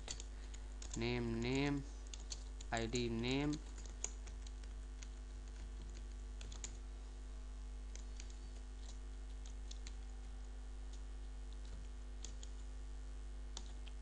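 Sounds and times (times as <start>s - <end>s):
computer keyboard and mouse clicks: 0.0s - 6.8s, 7.9s - 12.7s, 13.5s - 14.0s
low electrical hum: 0.0s - 14.0s.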